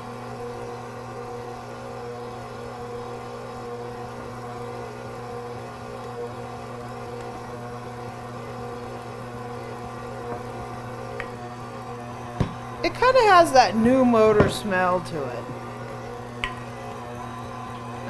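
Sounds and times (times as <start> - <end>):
stand mixer motor humming: 0.0 - 18.0.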